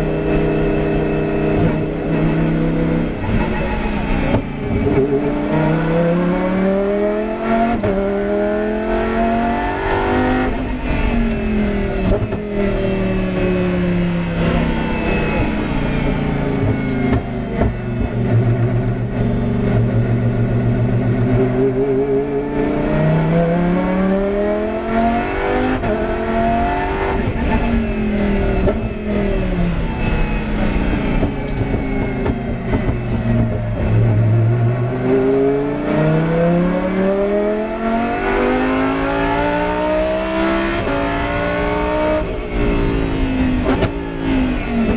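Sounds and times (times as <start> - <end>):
race car engine accelerating hard: 0.0 - 44.9.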